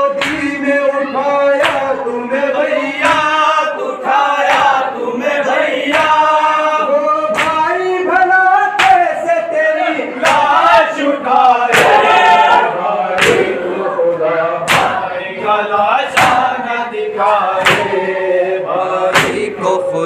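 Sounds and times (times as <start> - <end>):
men chanting in chorus: 0.0 - 20.0.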